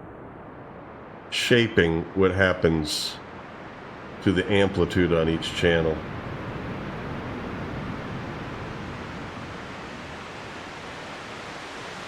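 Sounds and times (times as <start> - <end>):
synthesized surf-like hiss: 0.0 - 12.0.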